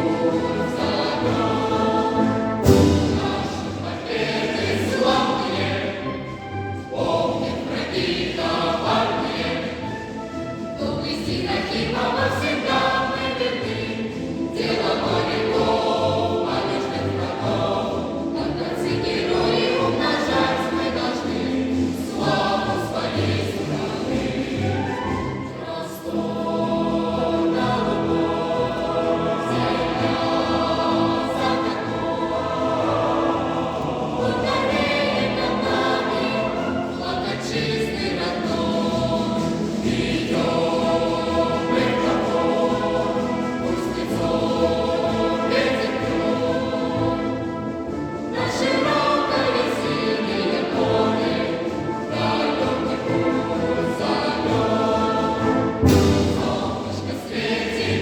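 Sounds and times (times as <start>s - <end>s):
children's choir singing: 0.0s - 58.0s
military brass band: 0.0s - 58.0s.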